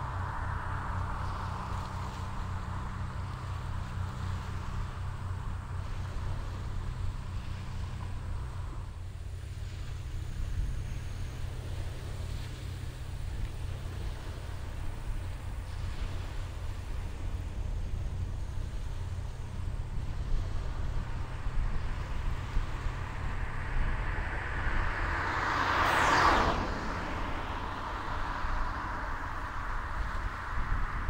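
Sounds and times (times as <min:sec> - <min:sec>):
car passing by: 0:00.0 - 0:31.0.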